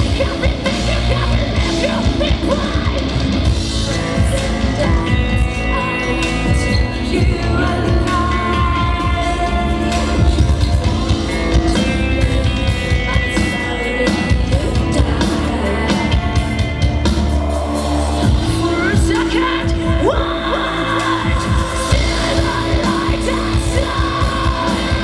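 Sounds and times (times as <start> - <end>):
metal band playing live: 0.0 - 25.0
woman singing: 0.0 - 25.0.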